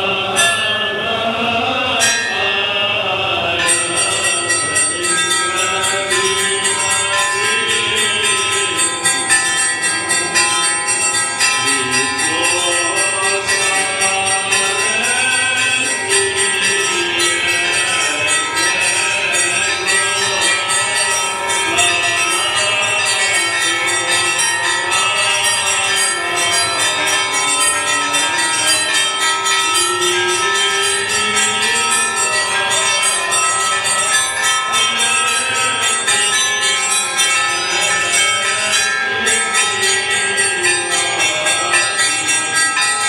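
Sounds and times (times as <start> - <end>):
church bells pealing: 0.0 - 43.0
voices singing: 0.0 - 43.0.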